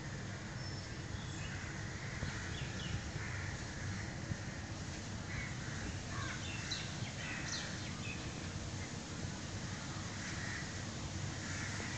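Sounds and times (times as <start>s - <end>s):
birds calling: 0.5s - 4.6s, 5.2s - 11.9s.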